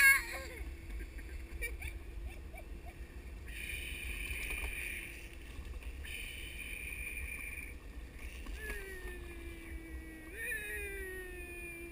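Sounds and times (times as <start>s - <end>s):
high whine: 0.0s - 11.9s.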